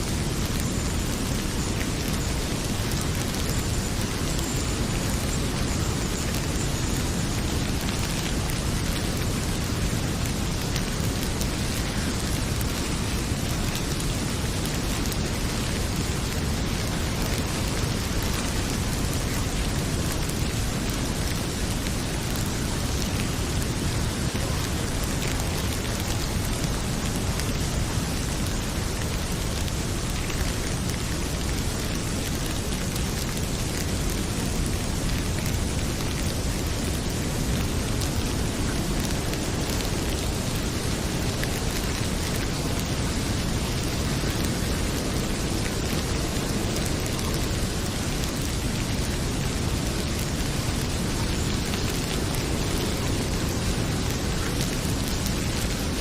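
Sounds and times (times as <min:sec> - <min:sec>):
heavy rain pouring: 0:00.0 - 0:56.0
wood fire crackling: 0:00.1 - 0:56.0.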